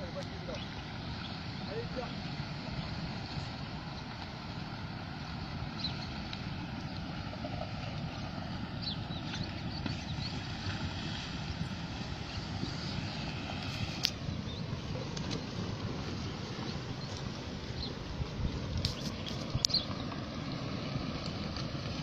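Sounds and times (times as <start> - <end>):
low roar of flood water: 0.0 - 22.0.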